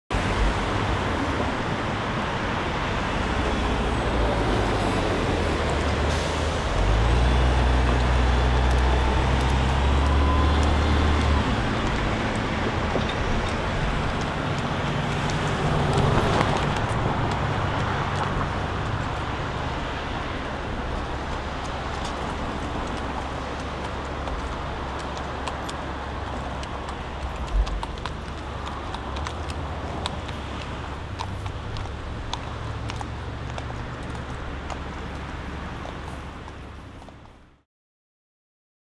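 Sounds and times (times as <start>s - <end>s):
road traffic noise: 0.1s - 37.6s
vehicle passing close: 2.6s - 36.8s
deep engine drone: 3.4s - 35.0s.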